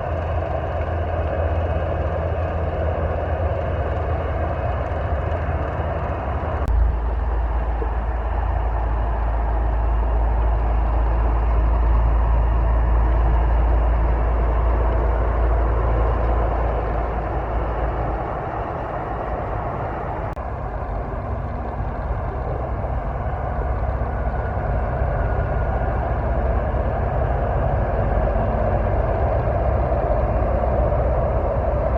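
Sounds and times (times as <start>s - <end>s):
heavy trucks driving past: 0.0s - 31.9s.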